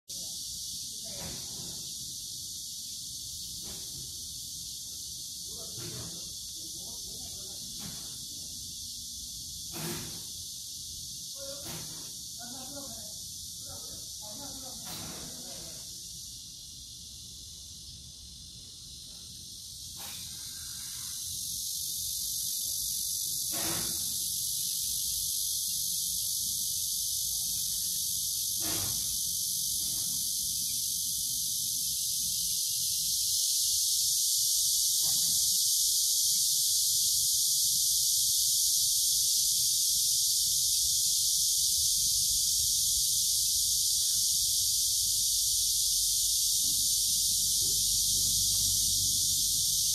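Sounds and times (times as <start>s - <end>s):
insects buzzing: 0.1s - 49.9s.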